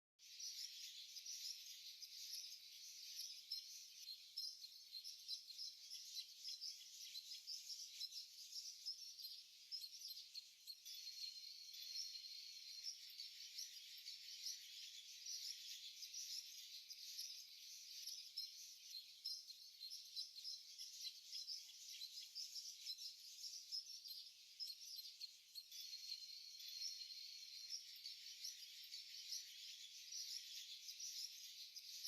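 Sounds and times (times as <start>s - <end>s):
small birds chirping: 0.2s - 32.0s.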